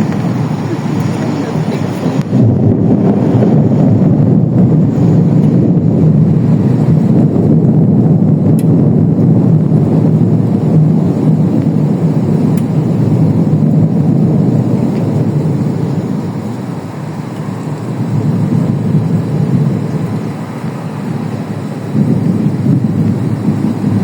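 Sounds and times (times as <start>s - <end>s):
loud low rumbling: 0.0s - 24.0s.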